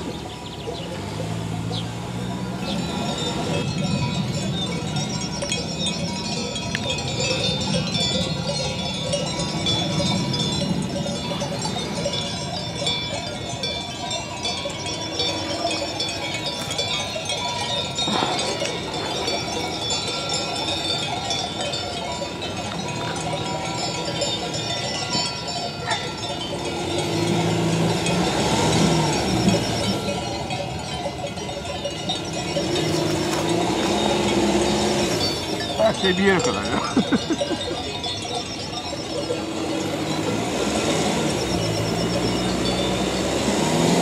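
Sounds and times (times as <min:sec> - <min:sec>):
small bells clinking: 0:00.0 - 0:44.0.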